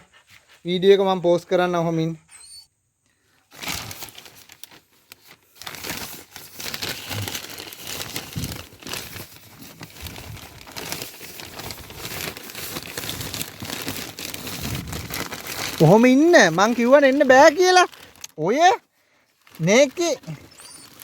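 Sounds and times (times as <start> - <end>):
crinkling and rustling handling noise: 3.1 - 21.0.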